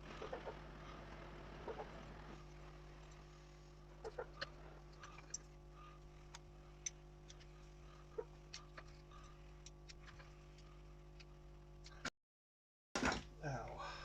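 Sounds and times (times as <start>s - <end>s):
steady low hum: 0.0s - 12.1s, 13.0s - 14.0s.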